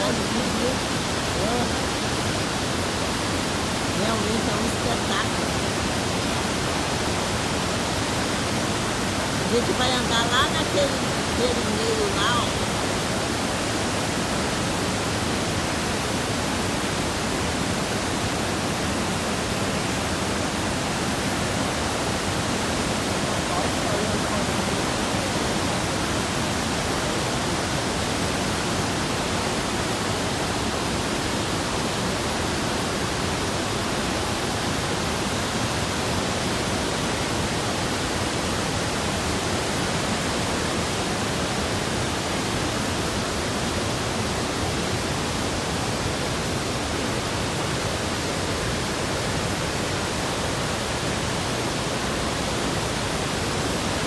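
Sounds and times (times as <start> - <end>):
waterfall and rapids roaring: 0.0 - 54.0.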